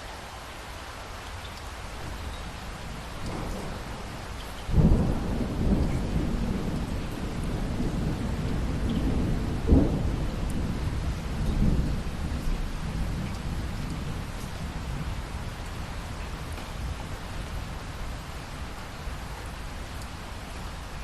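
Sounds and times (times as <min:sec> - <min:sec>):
steady rain: 0:00.0 - 0:21.0
thunder clap and rumble: 0:02.0 - 0:20.2.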